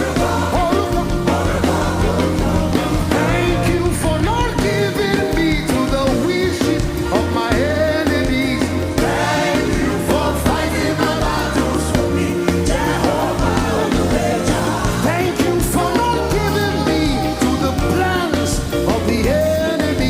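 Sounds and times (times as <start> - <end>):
voices singing: 0.0 - 20.0
worship band playing: 0.0 - 20.0.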